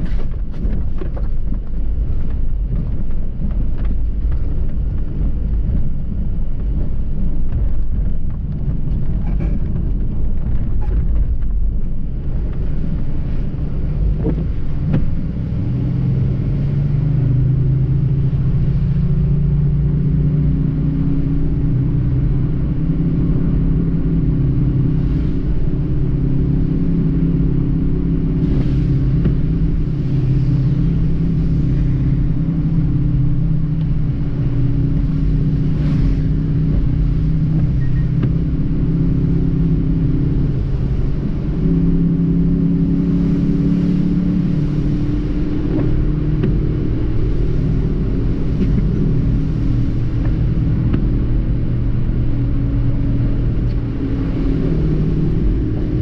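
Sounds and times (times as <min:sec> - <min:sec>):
car engine running: 0:00.0 - 0:56.0
tyres rumbling on wet road: 0:00.0 - 0:56.0.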